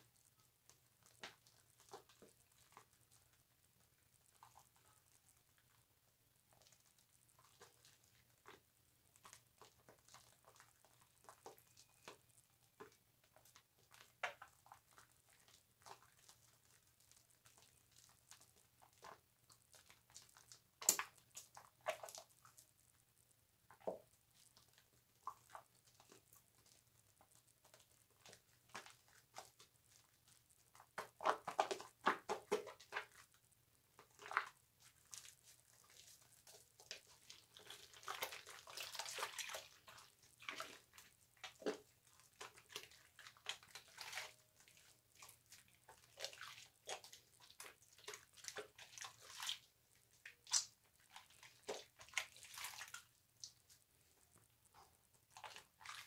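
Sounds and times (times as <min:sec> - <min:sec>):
soap lather squishing: 0:00.0 - 0:56.0.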